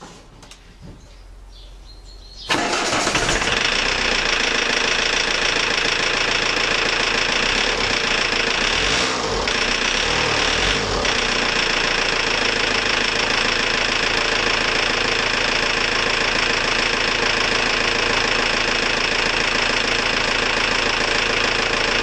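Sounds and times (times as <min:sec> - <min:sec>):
diesel engine running: 0:02.2 - 0:22.0.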